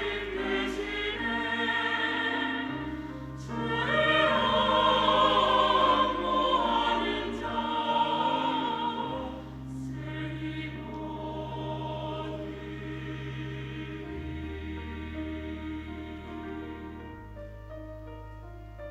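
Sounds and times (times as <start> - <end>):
church choir singing a hymn: 0.0 - 17.3
low accompaniment notes: 0.0 - 18.9.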